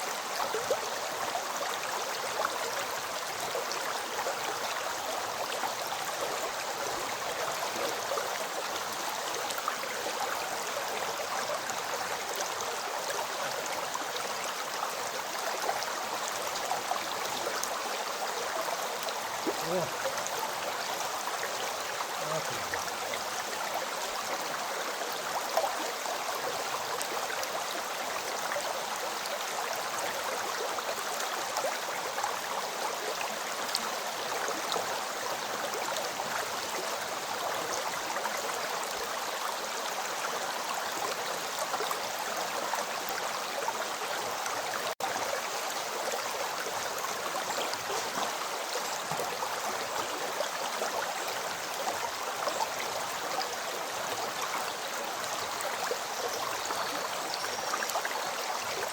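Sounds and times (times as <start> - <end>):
river water rushing over stones: 0.0 - 58.9.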